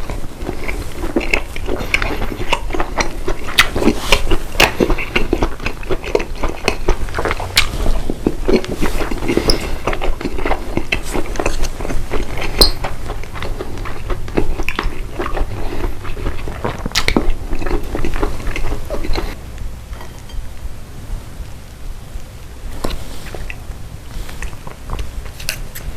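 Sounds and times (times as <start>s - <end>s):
person chewing food: 0.0s - 20.3s, 22.8s - 25.9s.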